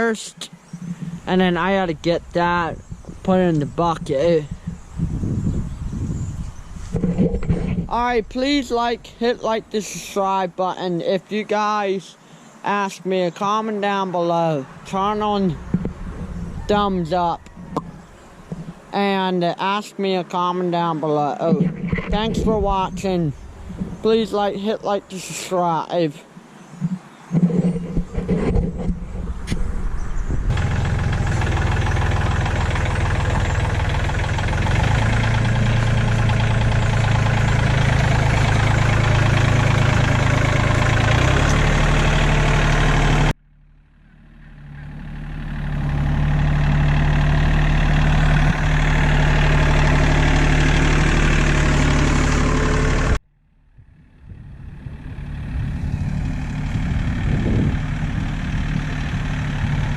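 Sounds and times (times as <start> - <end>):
tractor engine running: 0.0 - 10.4, 14.6 - 19.8, 20.4 - 24.9, 26.8 - 59.9.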